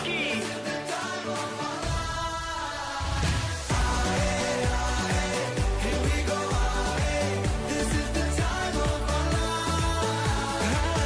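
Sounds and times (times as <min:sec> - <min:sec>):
pop music with steady beat: 0:00.0 - 0:11.0.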